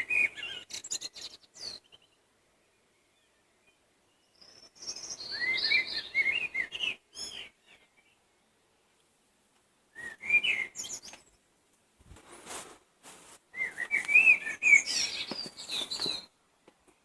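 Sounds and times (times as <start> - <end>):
songbirds singing: 0.0 - 11.7, 13.5 - 17.0.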